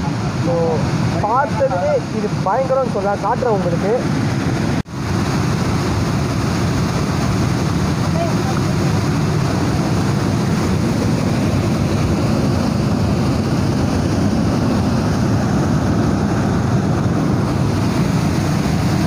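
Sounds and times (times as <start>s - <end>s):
waterfall rushing over rocks: 0.0s - 19.0s.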